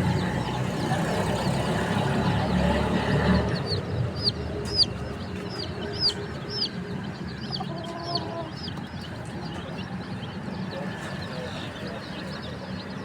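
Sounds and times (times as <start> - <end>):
baby chicks peeping: 0.0 - 13.0.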